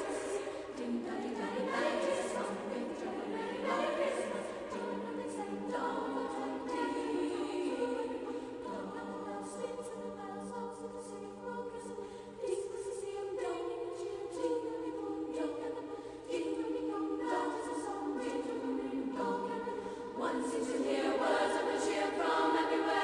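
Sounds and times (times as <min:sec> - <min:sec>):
choir singing sustained chords: 0:00.0 - 0:23.0.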